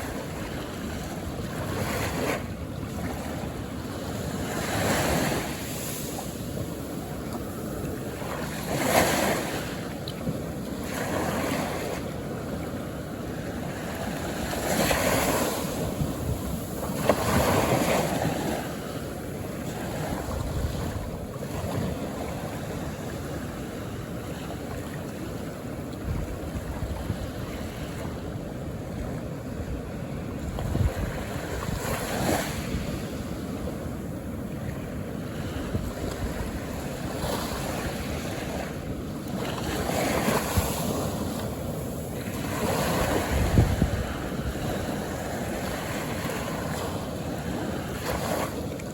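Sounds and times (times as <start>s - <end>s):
ocean waves washing on shore: 0.0s - 48.9s.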